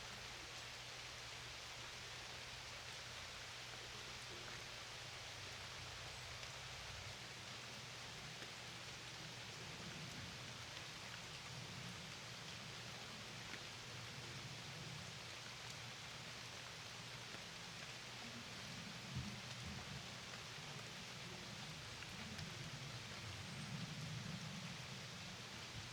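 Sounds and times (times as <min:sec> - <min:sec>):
steady rain hiss: 0:00.0 - 0:25.9.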